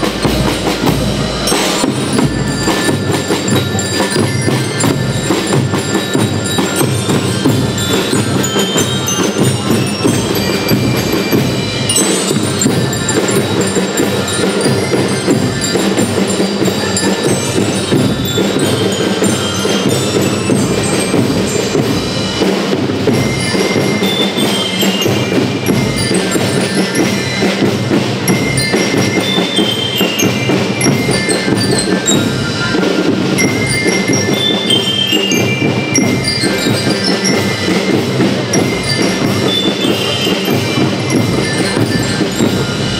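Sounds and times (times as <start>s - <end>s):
bell lyres melody: 0.0s - 42.9s
snare and bass drumming: 0.0s - 42.9s.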